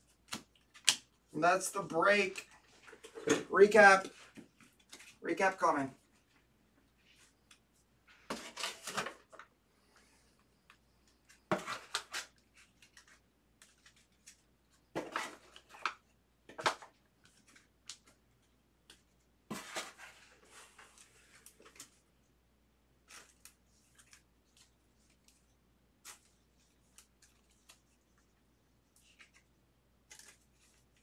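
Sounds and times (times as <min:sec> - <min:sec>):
trading cards rustling and clattering: 0:00.0 - 0:06.4, 0:07.1 - 0:09.5, 0:10.7 - 0:22.1, 0:23.0 - 0:31.0.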